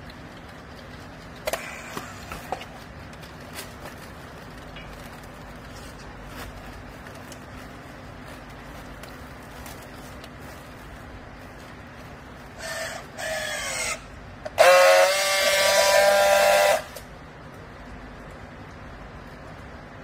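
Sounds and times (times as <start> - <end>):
steady low hum: 0.0 - 14.7, 15.4 - 20.0.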